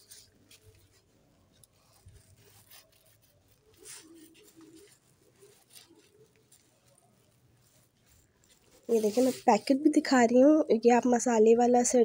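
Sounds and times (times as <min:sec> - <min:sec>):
faint rustles: 0:00.0 - 0:10.1.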